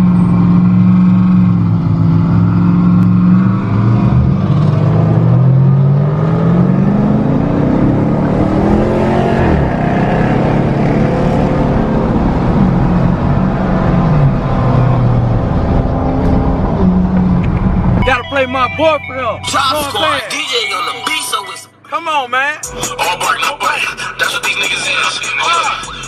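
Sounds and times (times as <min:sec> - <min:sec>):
car engine idling and revving: 0:00.0 - 0:20.5, 0:22.6 - 0:26.0.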